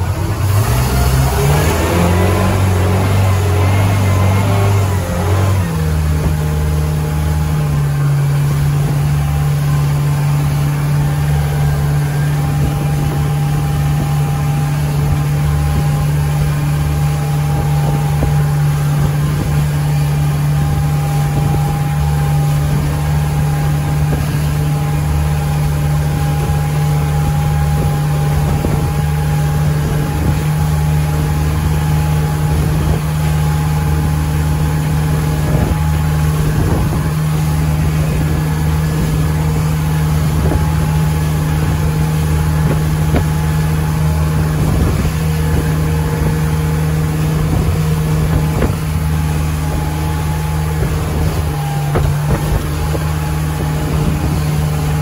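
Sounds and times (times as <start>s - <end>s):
motorboat engine droning: 0.0s - 55.0s
water rushing under hull: 0.0s - 55.0s.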